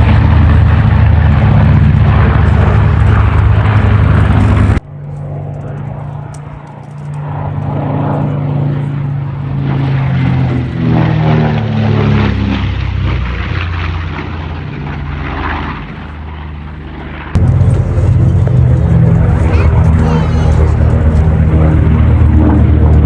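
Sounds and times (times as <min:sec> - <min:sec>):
propeller plane flying past: 0:00.0 - 0:23.0.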